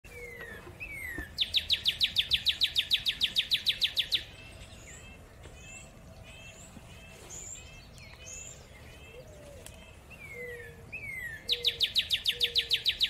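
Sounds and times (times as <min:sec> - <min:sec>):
small birds chirping: 0:00.1 - 0:13.0
songbird rapid trill: 0:00.1 - 0:13.0.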